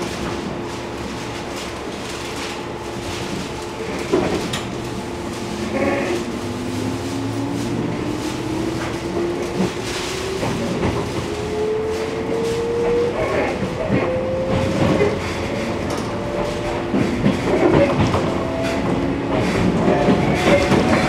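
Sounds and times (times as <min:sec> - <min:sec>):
electric train hum: 0:00.0 - 0:21.0.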